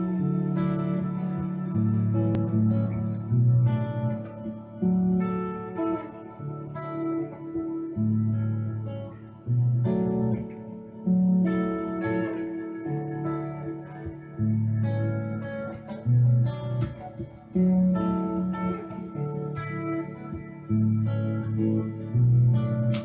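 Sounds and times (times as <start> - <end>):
clean electric guitar with delay: 0.0 - 23.0.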